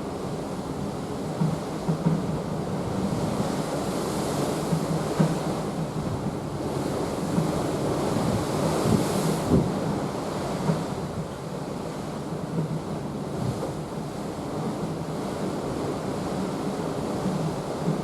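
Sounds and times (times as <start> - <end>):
sea water rushing and splashing: 0.0 - 18.0
wind buffeting microphone: 0.0 - 18.0.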